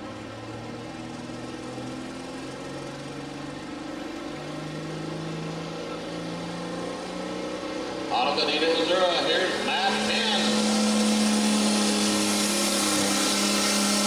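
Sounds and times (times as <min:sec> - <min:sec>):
diesel truck engine idling: 0:00.0 - 0:06.6, 0:08.1 - 0:13.4.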